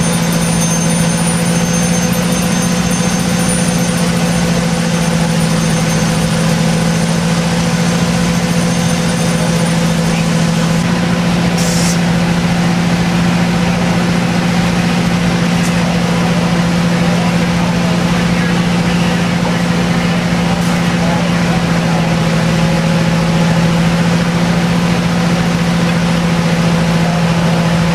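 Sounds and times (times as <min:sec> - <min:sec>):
fire engine running: 0:00.0 - 0:27.9.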